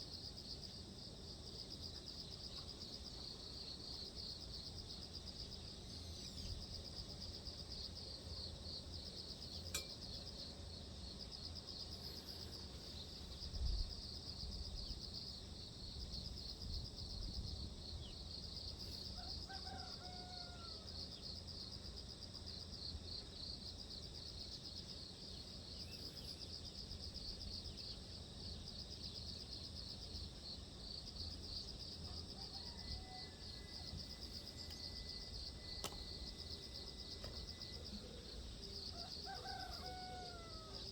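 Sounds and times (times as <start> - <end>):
insect chorus trilling: 1.4 - 21.6, 22.8 - 40.9.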